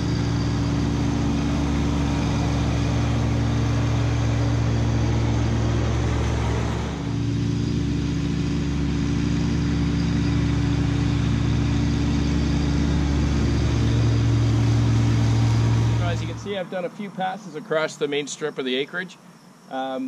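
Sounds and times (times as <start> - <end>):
tractor diesel engine running: 0.0 - 18.6.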